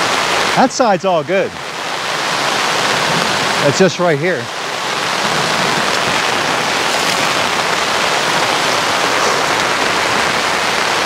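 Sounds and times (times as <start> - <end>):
heavy rain on fabric canopy: 0.0 - 11.0.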